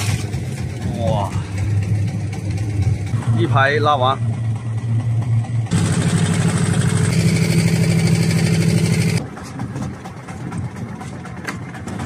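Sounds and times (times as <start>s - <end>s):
water: 0.0s - 7.8s, 9.2s - 12.0s
boat engine running: 0.0s - 12.0s.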